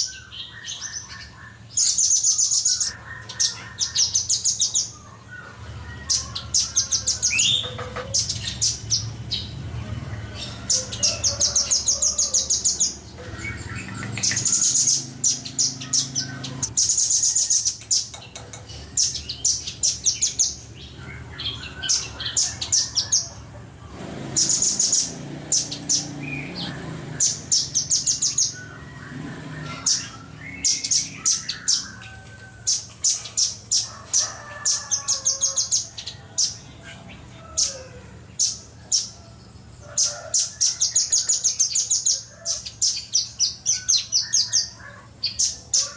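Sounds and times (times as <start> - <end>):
bird trilling song: 0.0 - 45.9.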